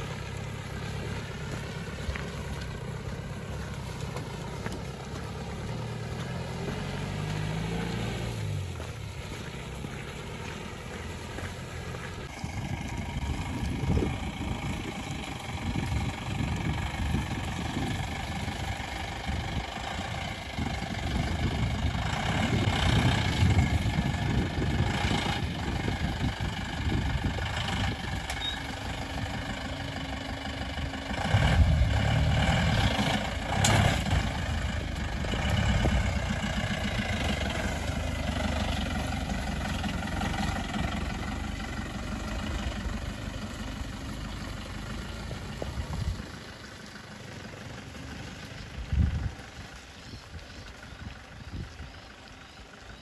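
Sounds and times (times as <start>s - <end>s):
suv engine running: 0.0s - 53.0s.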